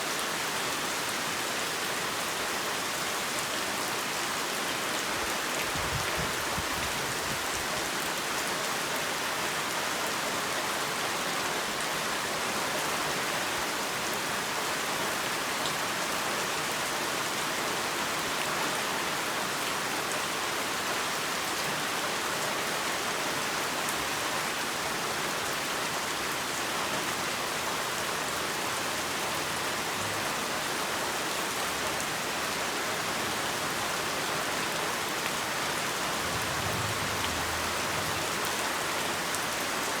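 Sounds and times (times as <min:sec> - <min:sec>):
heavy rain falling: 0:00.1 - 0:40.0.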